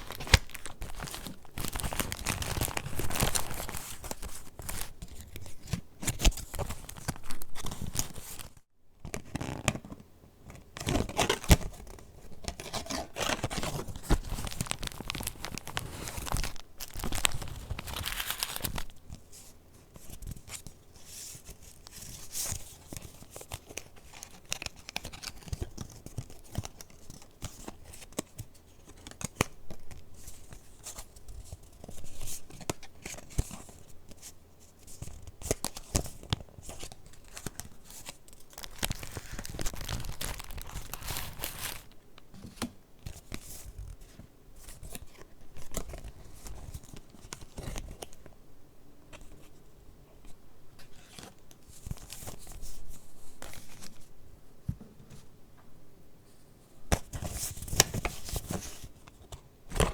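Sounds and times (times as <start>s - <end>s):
paper pages rustling and crinkling: 0.0s - 10.0s, 10.6s - 48.3s, 50.2s - 54.1s, 56.9s - 59.9s.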